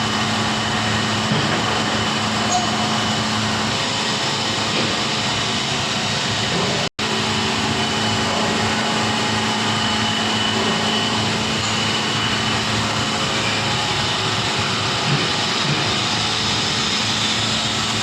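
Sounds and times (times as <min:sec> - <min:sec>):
industrial machinery hum: 0:00.0 - 0:18.0.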